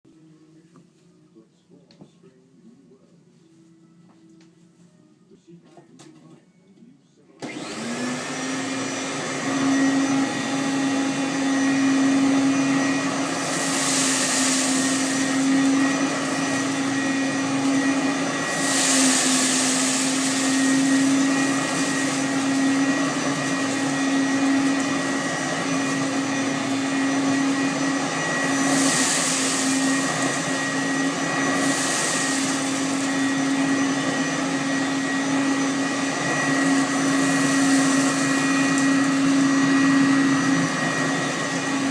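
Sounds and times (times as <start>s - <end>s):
vacuum cleaner running: 7.3s - 41.9s.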